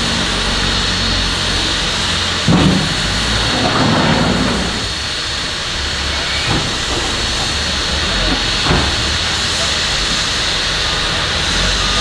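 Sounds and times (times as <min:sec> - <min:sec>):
diesel engine rumble: 0:00.0 - 0:12.0
steam locomotive hissing: 0:00.0 - 0:12.0.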